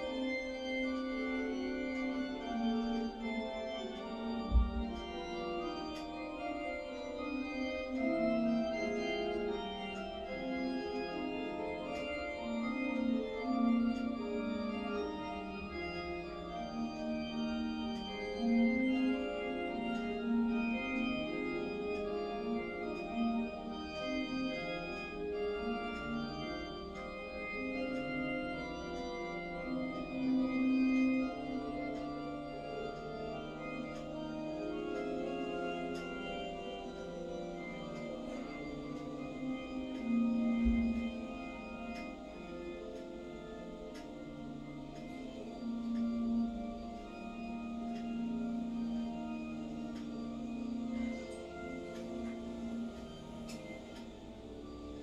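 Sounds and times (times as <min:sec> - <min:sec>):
church organ music: 0:00.0 - 0:55.0.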